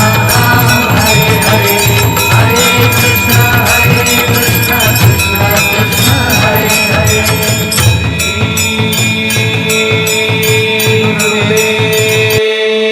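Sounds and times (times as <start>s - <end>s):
bell struck rhythmically: 0.0s - 12.4s
devotional music with held tones: 0.0s - 12.9s.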